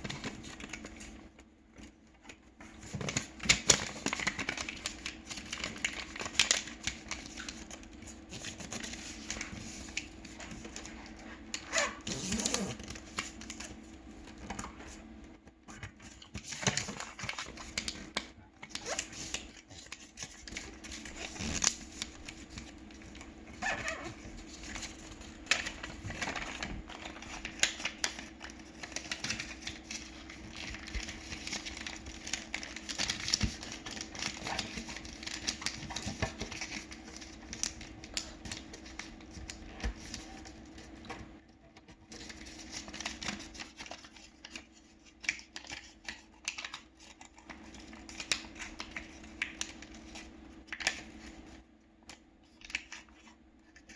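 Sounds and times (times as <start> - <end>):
paper rustling and crinkling: 1.8 - 15.1, 15.7 - 51.6.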